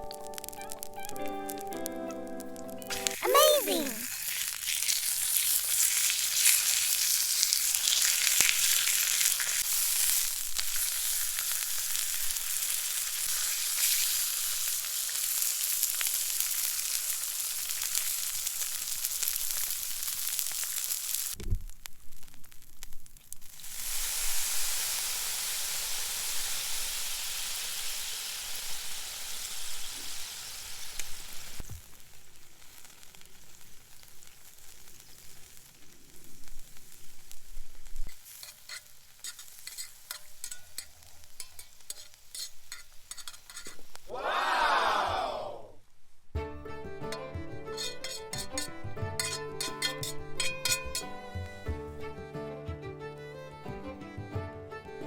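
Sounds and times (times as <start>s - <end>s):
steak sizzling in a hot pan: 0.0s - 21.4s, 22.0s - 44.1s, 47.1s - 51.6s.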